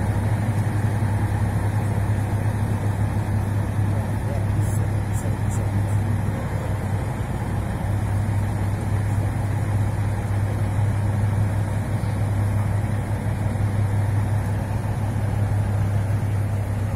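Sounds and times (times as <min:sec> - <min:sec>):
crane engines humming: 0:00.0 - 0:16.9.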